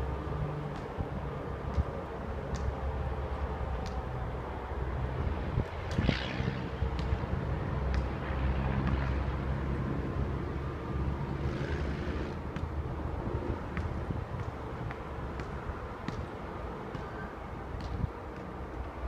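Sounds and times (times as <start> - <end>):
wind rumble on microphone: 0.1 - 19.0.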